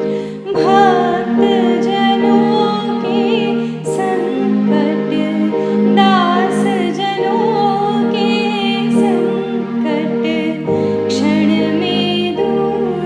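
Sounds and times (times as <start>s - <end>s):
high wavering melody: 0.0s - 13.0s
slow music with sustained chords: 0.0s - 13.0s.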